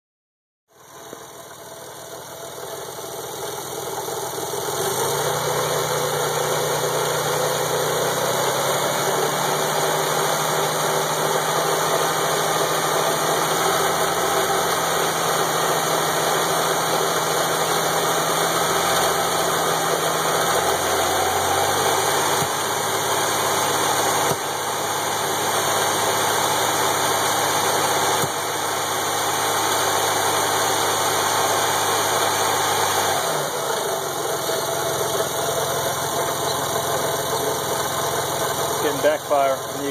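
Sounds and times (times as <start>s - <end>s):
car engine idling: 0.7s - 39.9s.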